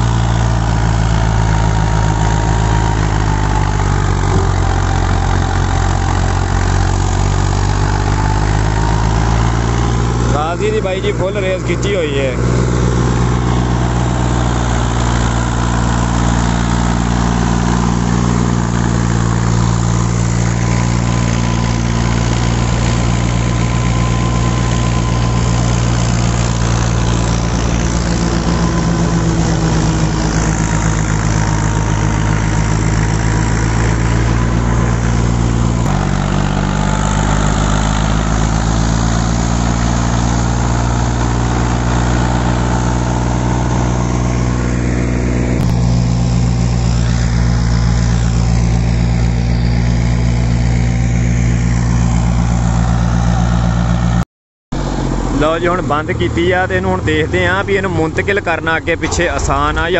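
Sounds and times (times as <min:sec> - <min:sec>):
tractor diesel engine at full throttle: 0:00.0 - 0:59.9.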